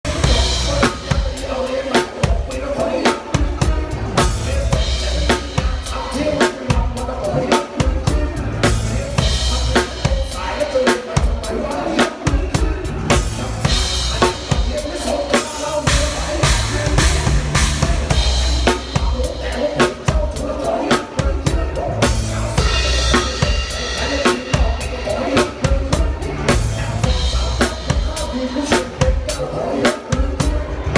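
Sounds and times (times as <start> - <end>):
drum kit beat: 0.0 - 30.9
pop song backing track: 0.0 - 30.9.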